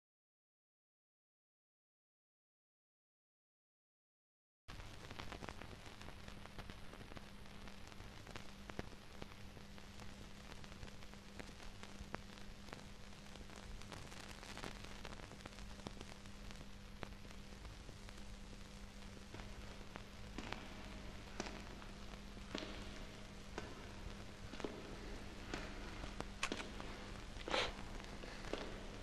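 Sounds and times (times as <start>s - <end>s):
faint low hum: 4.7s - 29.0s
film soundtrack hiss with crackles: 4.7s - 29.0s.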